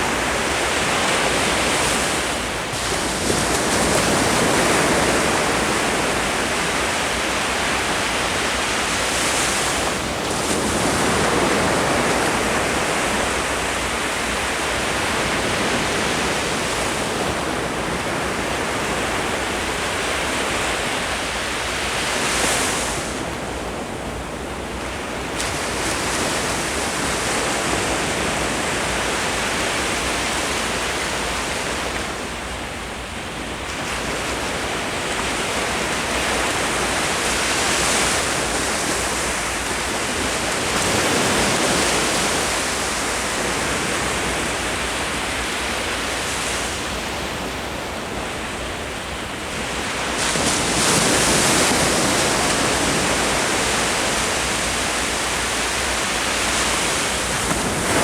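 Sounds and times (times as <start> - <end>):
ocean surf washing onto shore: 0.0 - 58.0.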